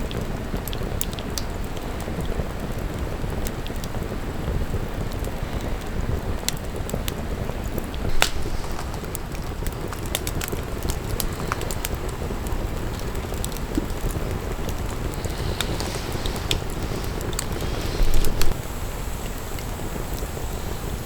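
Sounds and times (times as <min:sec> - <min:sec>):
fire popping: 0:00.0 - 0:21.0
fire rushing: 0:00.0 - 0:21.0
wood fire crackling: 0:00.0 - 0:21.0.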